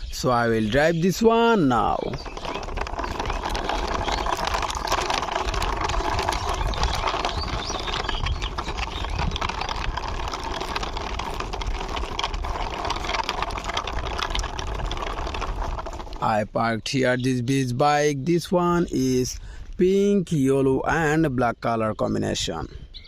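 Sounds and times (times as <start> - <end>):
toy wheels rolling and rattling: 0.1 - 19.4.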